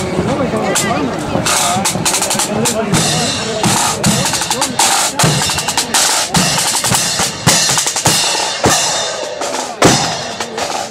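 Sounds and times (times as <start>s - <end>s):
snare drums: 0.0s - 10.9s
bass drum: 1.4s - 10.9s.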